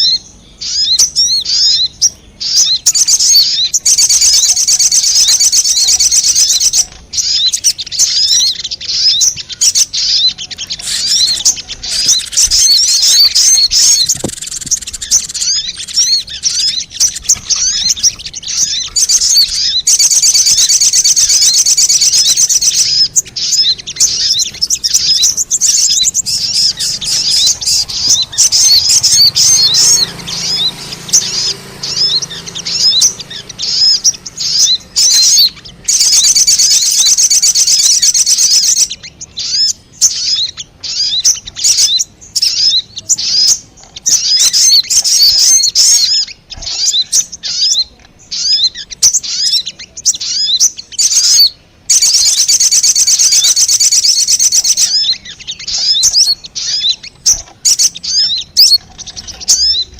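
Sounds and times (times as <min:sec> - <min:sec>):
high-pitched bird chattering chirps: 0:00.0 - 0:59.9.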